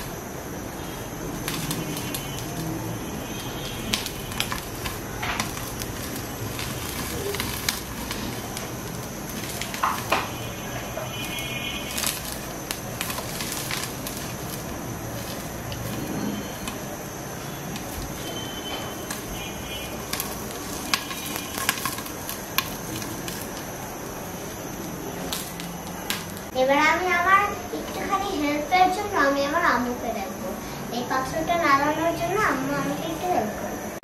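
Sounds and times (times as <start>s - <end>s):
popcorn popping: 0.0s - 29.1s
steady hiss of oil: 0.0s - 34.0s.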